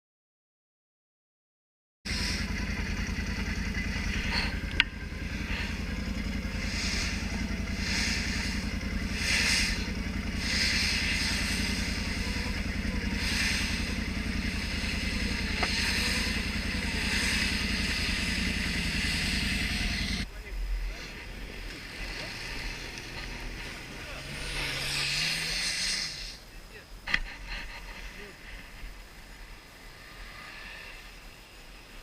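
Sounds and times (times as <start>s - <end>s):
hiss: 2.1s - 2.6s, 4.1s - 20.2s, 21.8s - 32.0s
atv engine running steadily: 2.1s - 32.0s.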